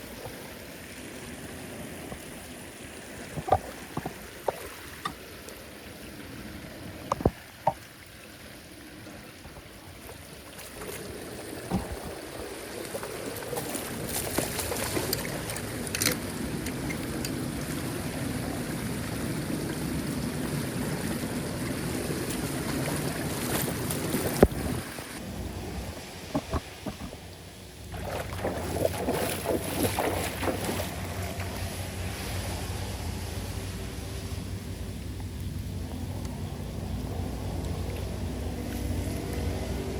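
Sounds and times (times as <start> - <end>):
water rushing into drain: 0.0 - 36.0.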